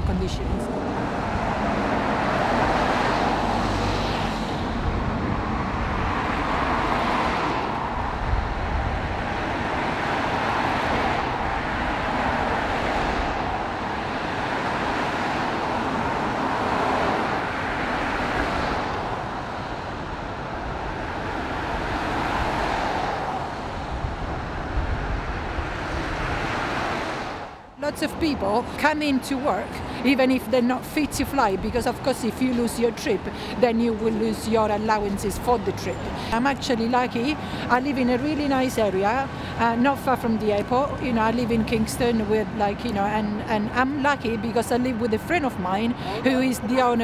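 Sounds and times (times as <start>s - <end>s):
cars passing: 0.0s - 47.0s.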